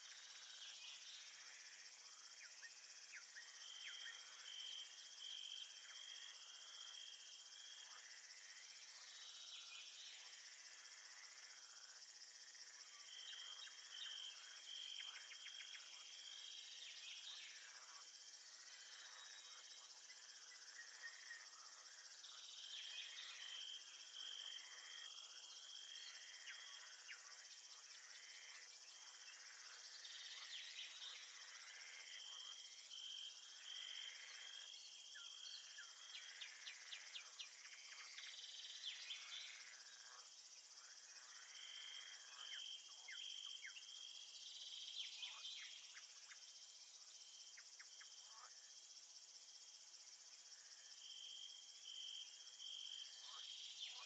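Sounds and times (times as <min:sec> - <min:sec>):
crickets chirping: 0:00.0 - 0:54.0
steady high insect hiss: 0:00.0 - 0:54.0.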